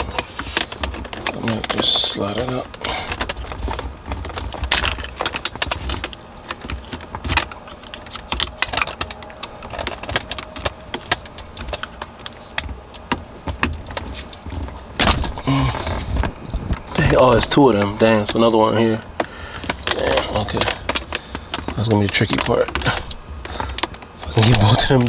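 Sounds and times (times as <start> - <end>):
plastic trim clicking and rattling: 0.0 - 25.0.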